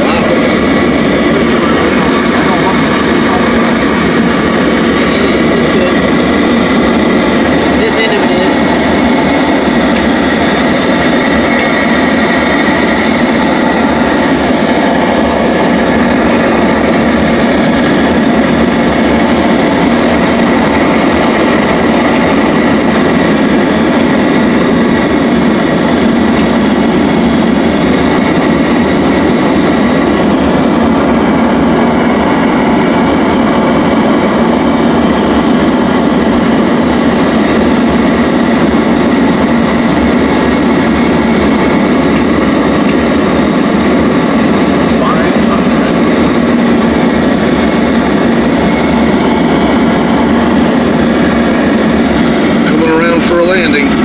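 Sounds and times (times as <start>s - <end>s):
propeller plane engine: 0.0s - 54.0s
thin high whine: 0.0s - 54.0s.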